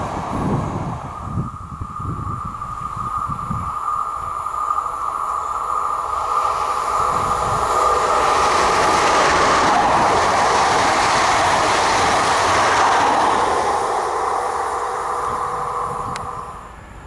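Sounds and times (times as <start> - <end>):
rush of wheels and air: 0.0 - 17.0
train passing: 0.0 - 17.0.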